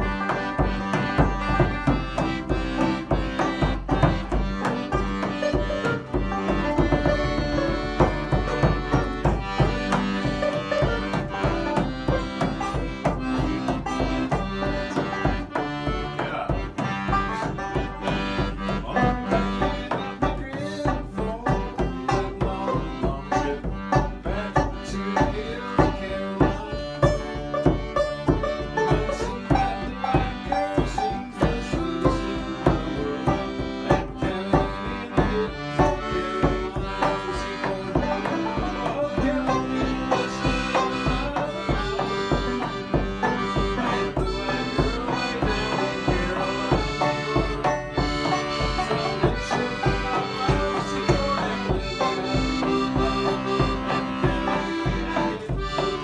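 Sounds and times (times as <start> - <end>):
accordion chords: 0.0 - 56.0
banjo picking: 0.0 - 56.0
frame drum beat: 0.0 - 56.0.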